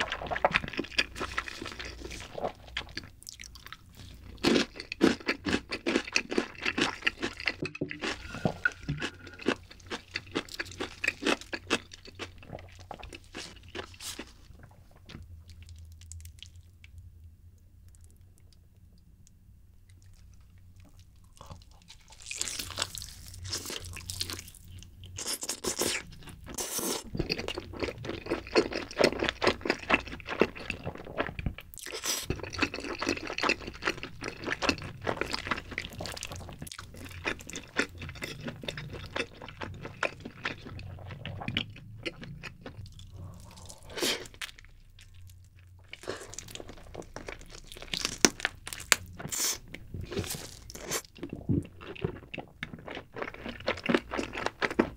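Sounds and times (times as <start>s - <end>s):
person chewing noodles: 0.0s - 16.7s, 20.0s - 54.9s.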